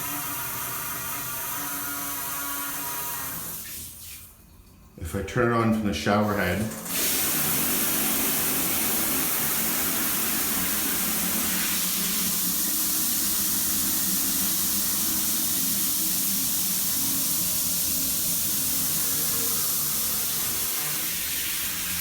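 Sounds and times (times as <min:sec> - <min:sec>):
shower spraying water: 0:00.0 - 0:04.4, 0:06.2 - 0:22.0.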